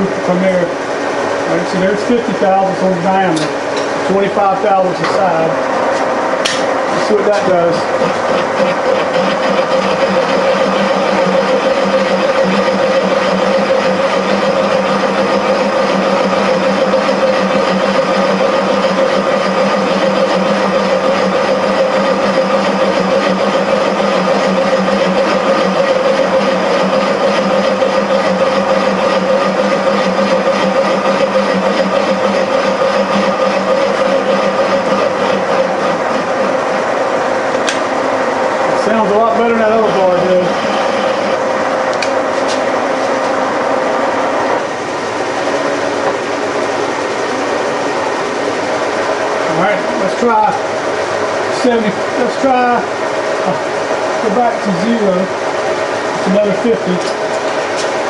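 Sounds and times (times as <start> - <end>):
machine tool humming: 0.0 - 58.0.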